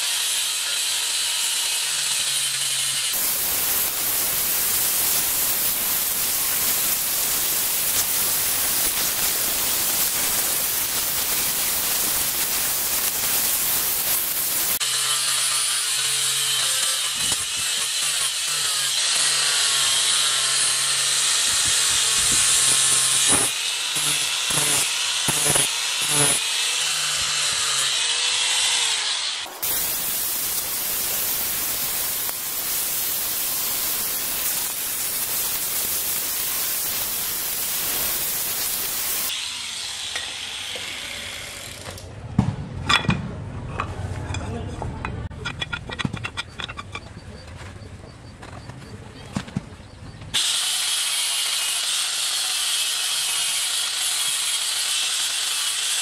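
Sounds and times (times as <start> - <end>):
angle grinder grinding steel: 0.0 - 41.9, 50.4 - 56.0.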